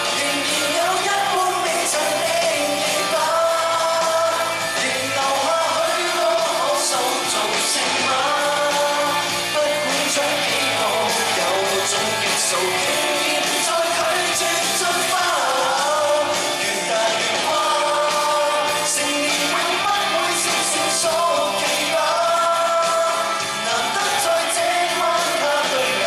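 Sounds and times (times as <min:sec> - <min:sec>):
man singing: 0:00.0 - 0:26.0
pop-rock band playing: 0:00.0 - 0:26.0.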